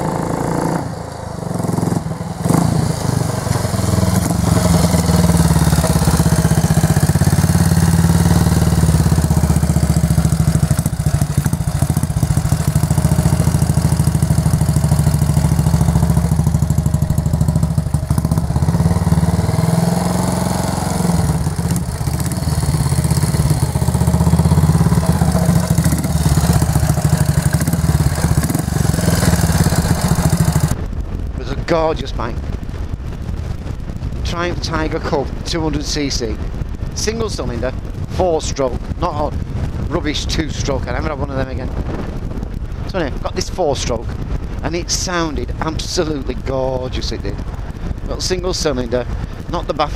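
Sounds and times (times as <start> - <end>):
wind rushing: 0.0 - 49.8
motorcycle engine running: 0.0 - 49.9.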